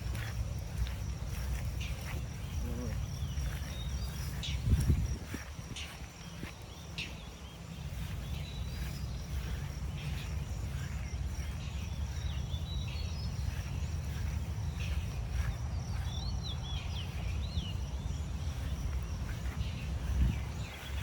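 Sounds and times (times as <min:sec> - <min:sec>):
small birds chirping: 0:00.0 - 0:21.0
wind buffeting microphone: 0:00.0 - 0:21.0.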